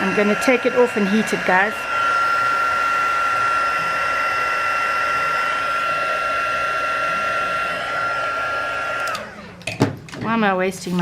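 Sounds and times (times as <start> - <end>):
heat tool whine and rushing air: 0.0 - 9.7.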